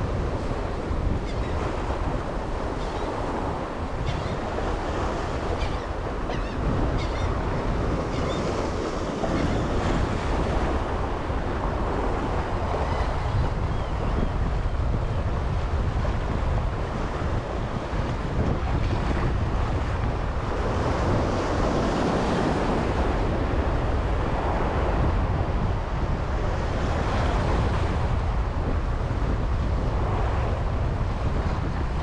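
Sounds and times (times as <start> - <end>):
wind blowing across microphone: 0.0 - 32.0.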